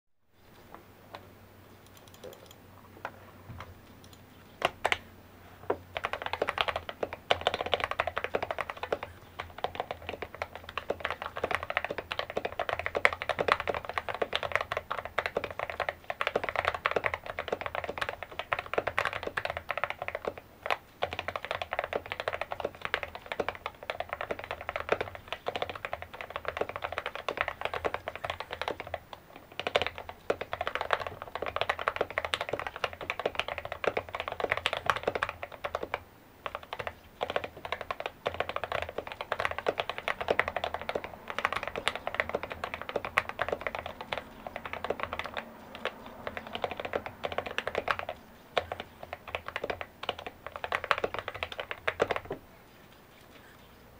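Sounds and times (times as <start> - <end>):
fast mechanical keyboard typing: 1.8 - 2.6, 3.5 - 52.4.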